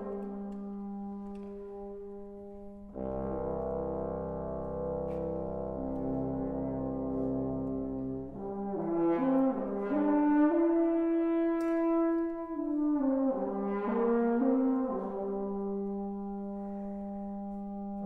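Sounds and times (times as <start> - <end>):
brass quintet playing chords: 0.0 - 18.0.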